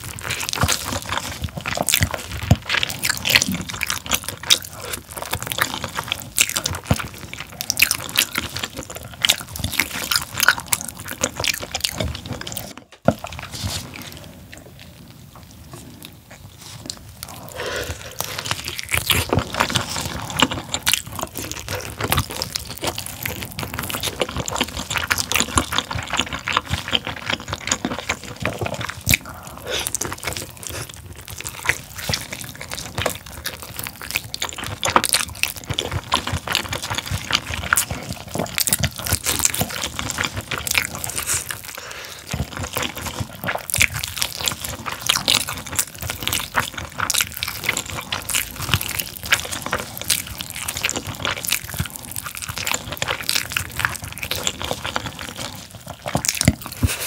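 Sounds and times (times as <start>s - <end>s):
wet chewing and lip-smacking: 0.0s - 57.0s.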